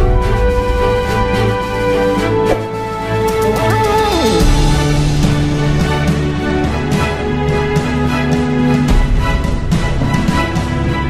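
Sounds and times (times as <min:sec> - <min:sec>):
held chords music: 0:00.0 - 0:11.0.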